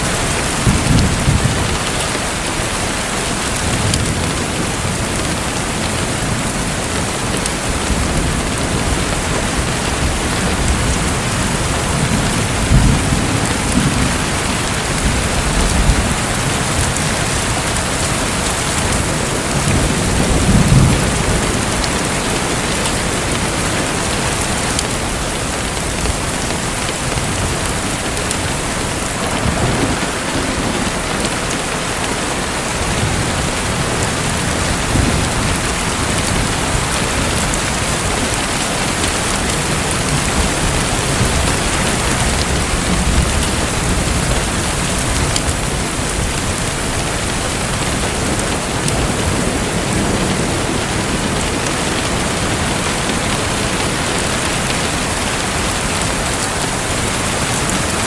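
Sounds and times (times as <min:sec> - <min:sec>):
water rushing and pattering: 0:00.0 - 0:58.0.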